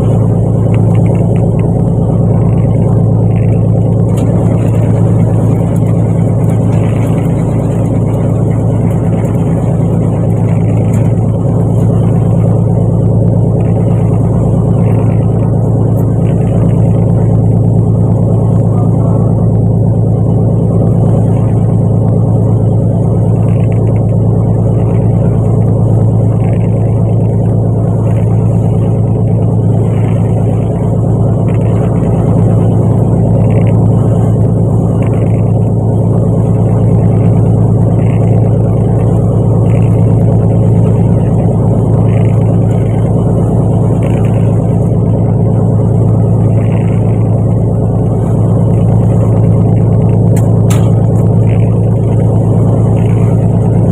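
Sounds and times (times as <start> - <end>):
boat engine humming: 0.0 - 53.9.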